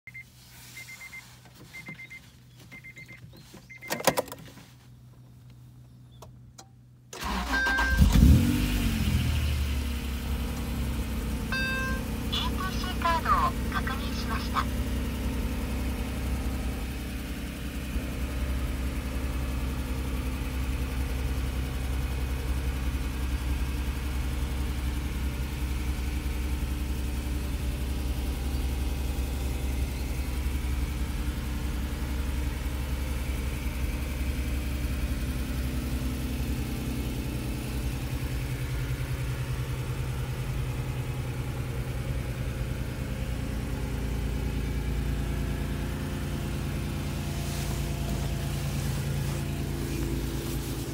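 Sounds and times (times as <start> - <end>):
car engine idling: 0.1 - 50.9.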